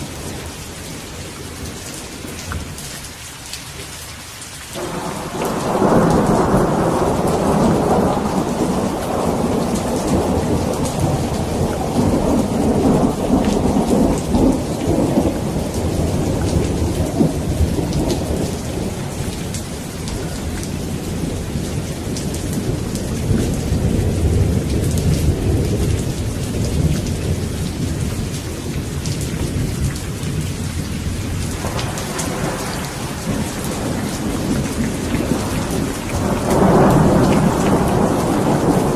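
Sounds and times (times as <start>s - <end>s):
heavy rain: 0.0s - 38.9s
rolling thunder: 4.8s - 38.9s.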